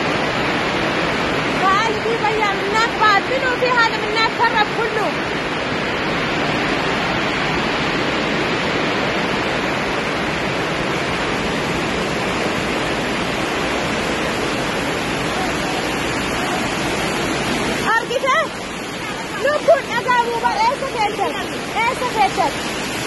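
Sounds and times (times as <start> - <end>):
heavy rain on roof: 0.0 - 23.0.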